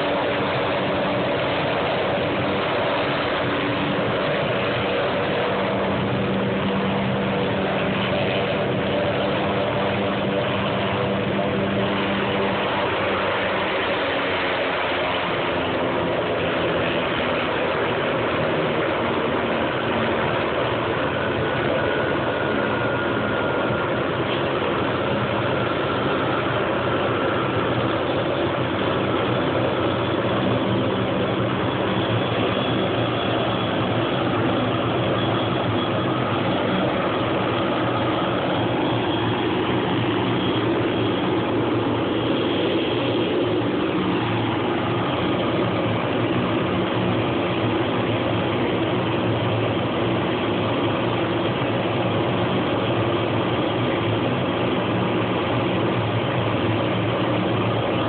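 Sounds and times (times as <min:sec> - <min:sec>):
faint high whine: 0:00.0 - 0:58.0
helicopter engine and rotors: 0:00.0 - 0:58.0.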